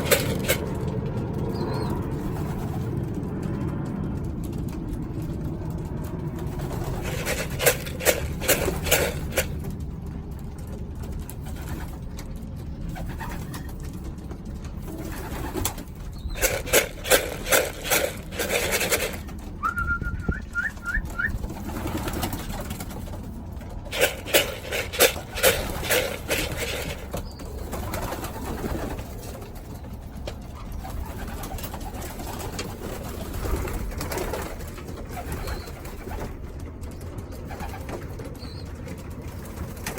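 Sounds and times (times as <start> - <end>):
pigeons cooing: 0.0 - 3.7, 4.6 - 9.8, 10.4 - 39.9
steady low rumble: 0.0 - 35.2.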